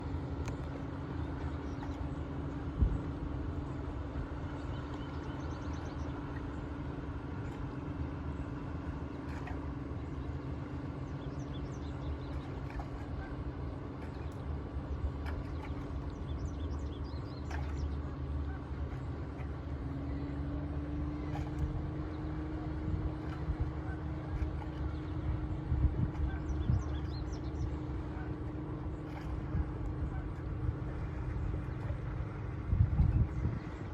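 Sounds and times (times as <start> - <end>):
low engine hum: 0.0 - 33.9.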